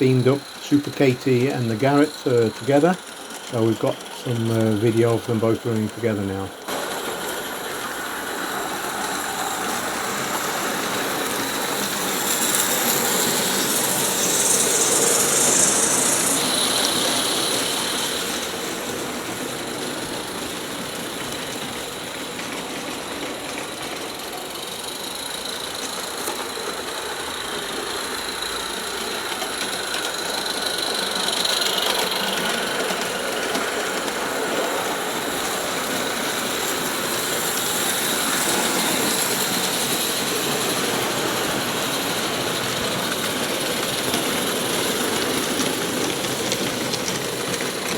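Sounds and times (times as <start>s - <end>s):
live steam locomotives running: 0.0s - 47.9s
steam hiss: 0.0s - 47.9s.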